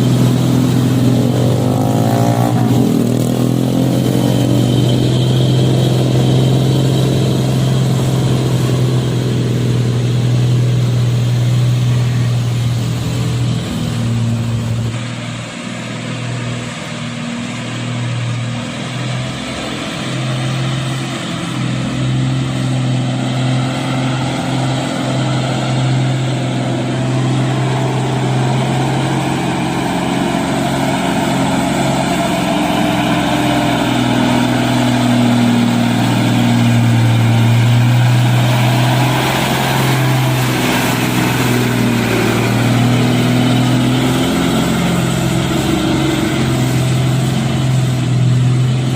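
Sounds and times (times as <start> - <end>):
truck engine running: 0.0 - 48.9.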